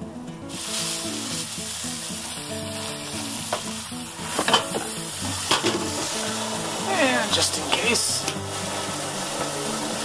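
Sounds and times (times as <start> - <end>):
faint guitar music: 0.0 - 10.0
chicken sizzling in oil: 0.5 - 10.0.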